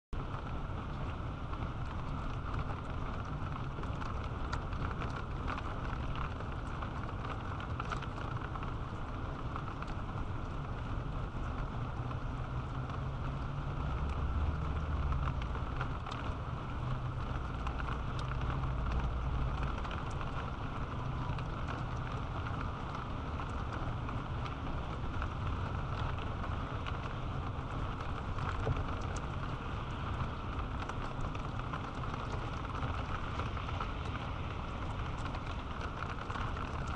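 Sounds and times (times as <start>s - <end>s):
rain drops ticking: 0.2s - 36.9s.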